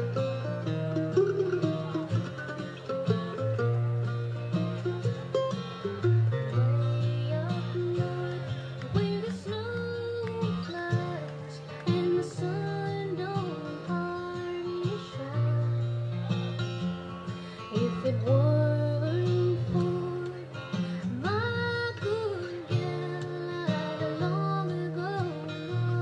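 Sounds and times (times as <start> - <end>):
guitar music: 0.0 - 26.0.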